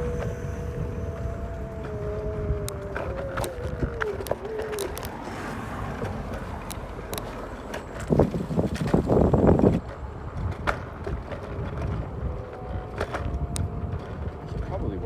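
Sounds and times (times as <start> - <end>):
scooter clicks and rattles: 0.0 - 15.0
two-note electric motor whine: 0.0 - 15.0
wind rumbling on microphone: 0.0 - 15.0.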